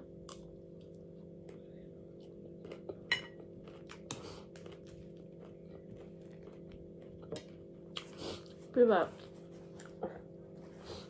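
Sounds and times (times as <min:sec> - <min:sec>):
steady low hum: 0:00.0 - 0:11.0
chewing and crunching food: 0:00.1 - 0:11.0.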